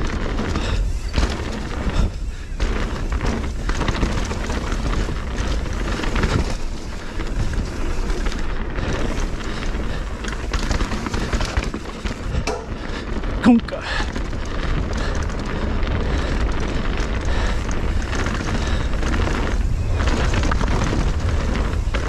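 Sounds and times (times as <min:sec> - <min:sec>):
bike knocking and rattling: 0:00.0 - 0:22.0
tyres rolling on dirt: 0:00.0 - 0:22.0
wind rushing over microphone: 0:00.0 - 0:22.0.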